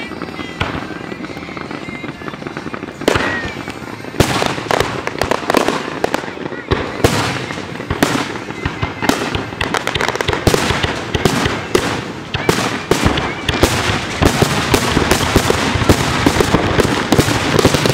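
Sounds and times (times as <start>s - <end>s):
fireworks bangs and crackles: 0.0s - 17.9s.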